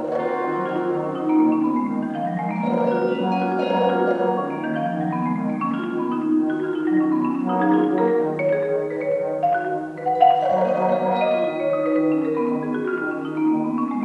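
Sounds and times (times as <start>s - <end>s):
marimba notes: 0.0s - 14.0s
percussion ensemble playing: 0.0s - 14.0s.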